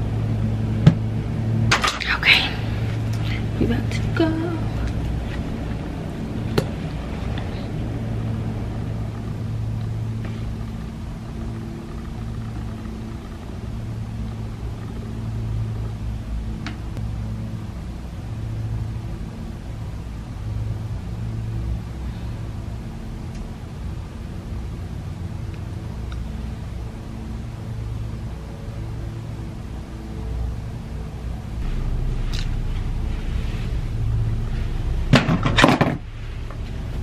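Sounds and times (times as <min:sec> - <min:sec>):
low droning hum: 0:00.0 - 0:37.0.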